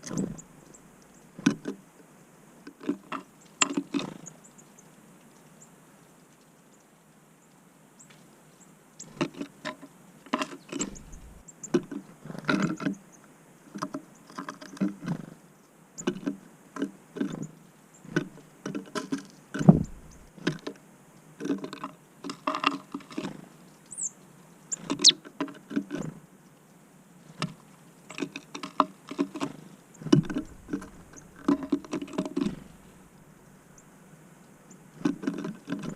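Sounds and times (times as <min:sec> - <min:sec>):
birds pecking at a feeder: 0:02.7 - 0:13.1, 0:13.7 - 0:15.4, 0:16.0 - 0:33.9, 0:34.7 - 0:35.9.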